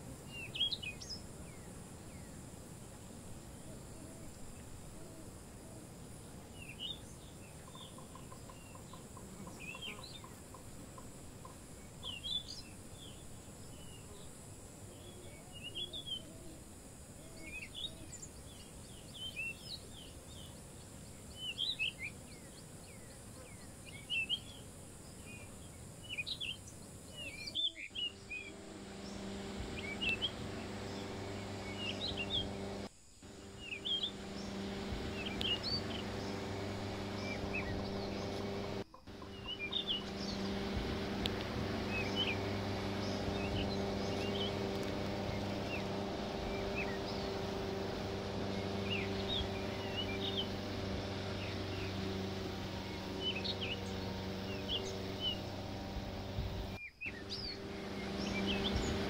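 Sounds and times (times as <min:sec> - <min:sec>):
birds chirping: 0:00.0 - 0:59.0
boat engine humming: 0:00.0 - 0:59.0.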